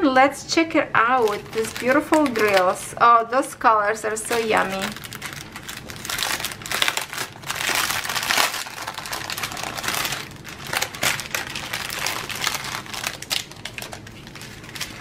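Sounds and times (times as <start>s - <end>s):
plastic packaging crinkling: 1.0s - 3.0s, 4.0s - 15.0s.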